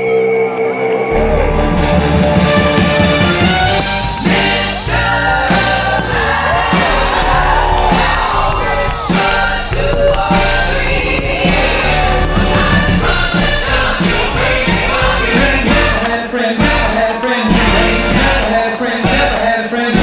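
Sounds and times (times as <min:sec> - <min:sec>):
song with sung vocals: 0:00.0 - 0:20.0.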